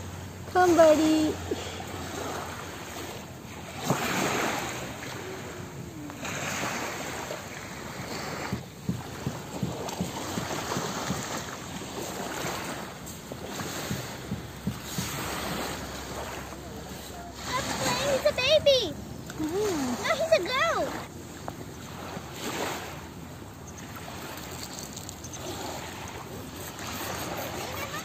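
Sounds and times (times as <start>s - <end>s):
sea surf rushing: 0.0s - 28.0s.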